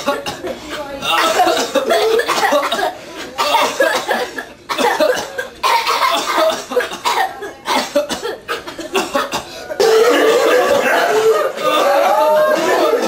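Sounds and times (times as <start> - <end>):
person coughing in fits: 0.0 - 11.3.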